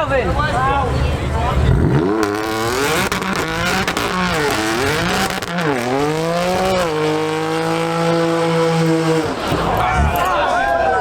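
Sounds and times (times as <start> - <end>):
car engine revving: 0.1 - 10.4.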